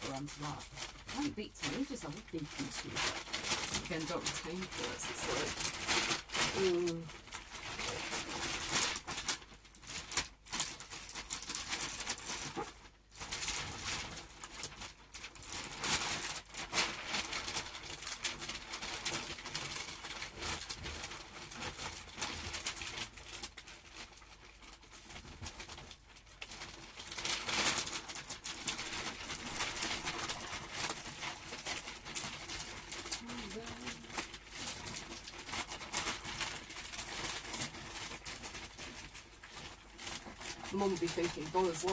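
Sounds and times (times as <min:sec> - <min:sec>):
wrapping paper crinkling: 0:00.0 - 0:41.9.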